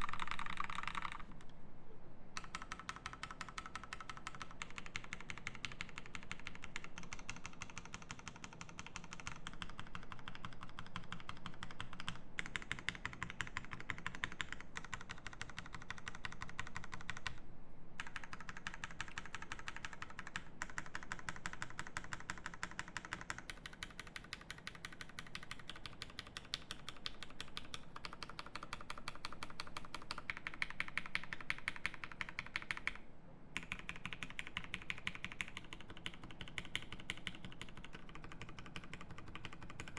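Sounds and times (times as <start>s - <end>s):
mechanical keyboard typing: 0.0s - 1.4s, 2.4s - 17.4s, 18.0s - 33.0s, 33.6s - 39.9s.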